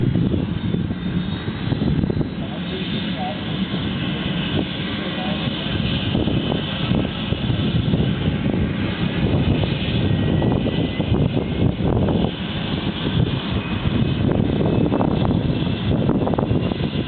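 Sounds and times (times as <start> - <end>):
turboprop engine starting: 0.0 - 17.0.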